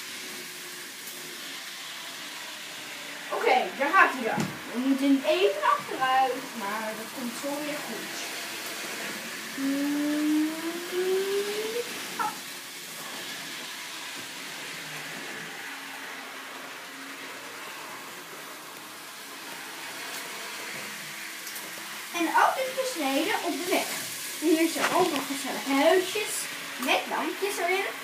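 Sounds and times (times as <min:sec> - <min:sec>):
model train motor humming: 0:00.0 - 0:28.0.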